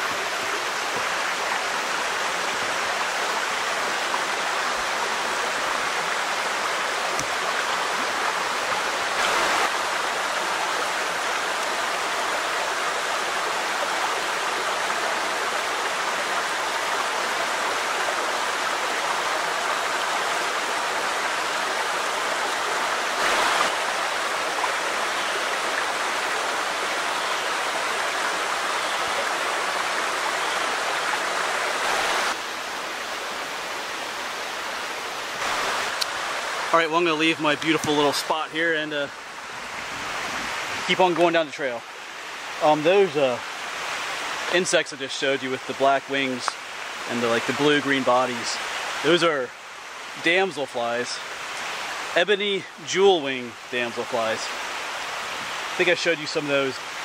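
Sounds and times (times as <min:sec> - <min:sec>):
creek babbling over stones: 0:00.0 - 0:57.0.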